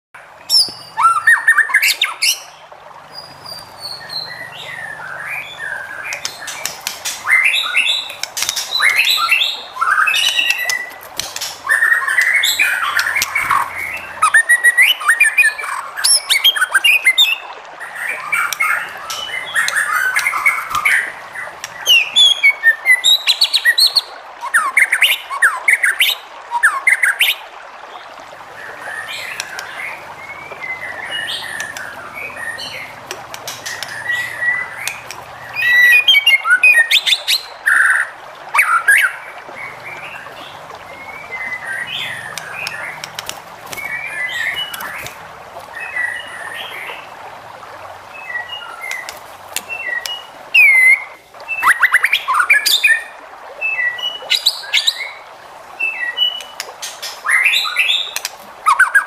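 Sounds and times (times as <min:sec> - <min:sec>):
songbird singing: 0:00.2 - 0:59.0.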